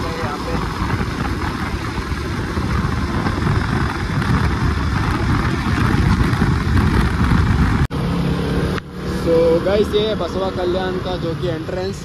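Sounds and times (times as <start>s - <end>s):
motorcycle engine: 0.0s - 12.0s
road noise: 0.0s - 12.0s
wind buffeting microphone: 0.0s - 12.0s.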